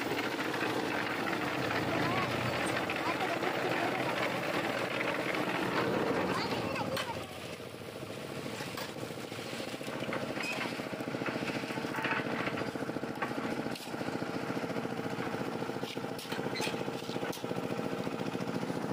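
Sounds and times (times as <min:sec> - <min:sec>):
concrete mixer engine chugging: 0:00.0 - 0:18.9.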